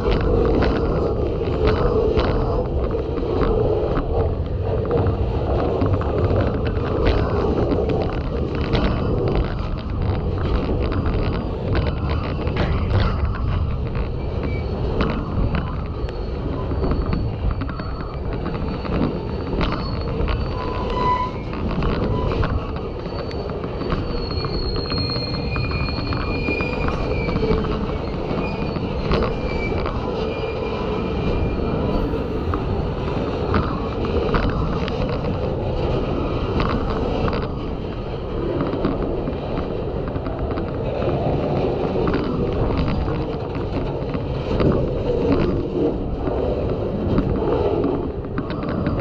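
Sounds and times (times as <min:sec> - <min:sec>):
rain on microphone crackling: 0:00.0 - 0:30.2, 0:31.1 - 0:49.0
train wheels rumbling on rails: 0:00.0 - 0:49.0
wheel squeal: 0:00.0 - 0:49.0.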